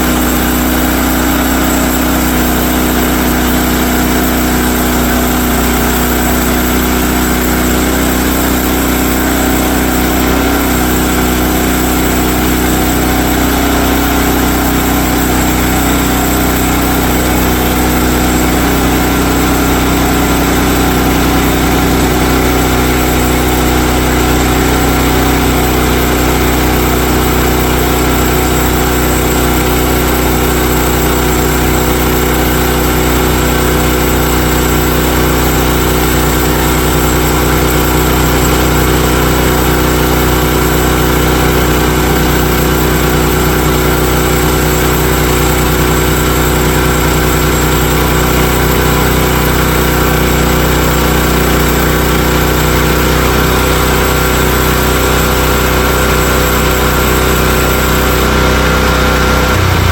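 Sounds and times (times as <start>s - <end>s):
gasoline engine running: 0.0s - 59.9s.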